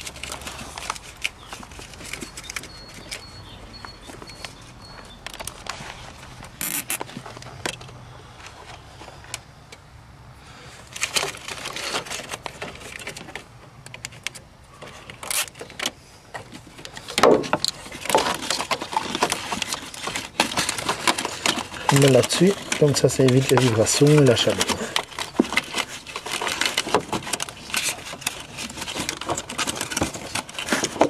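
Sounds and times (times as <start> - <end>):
plastic and cable clicks and rustles: 0.0 - 9.4, 10.9 - 31.0.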